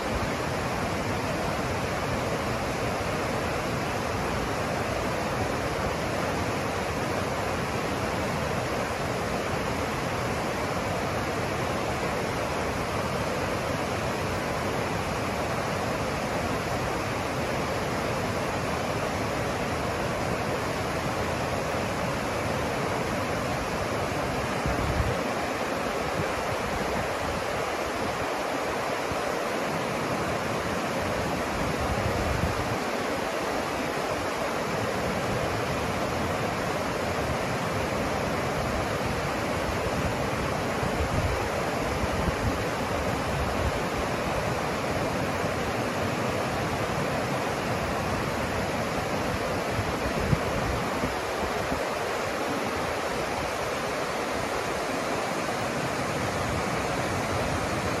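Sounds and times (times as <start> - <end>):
river rushing over boulders: 0.0 - 58.0.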